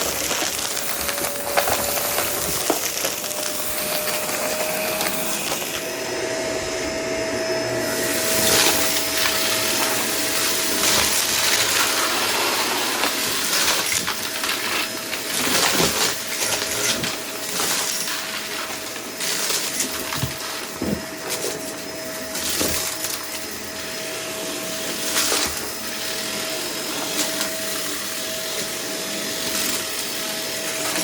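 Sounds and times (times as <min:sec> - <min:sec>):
vacuum cleaner motor whine: 0:00.0 - 0:31.0.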